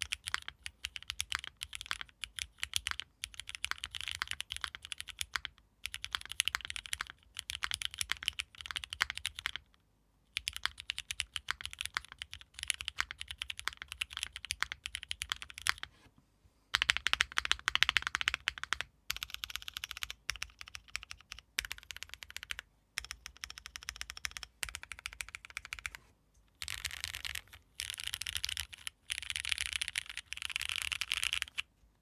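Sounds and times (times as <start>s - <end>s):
mechanical keyboard typing: 0.0s - 9.7s, 10.4s - 15.9s, 16.7s - 26.0s, 26.6s - 31.7s.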